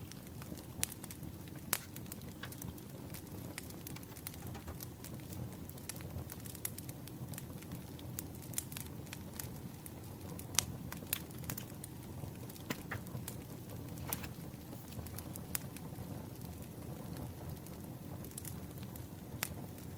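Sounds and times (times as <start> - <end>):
campfire crackling and popping: 0.0 - 19.9.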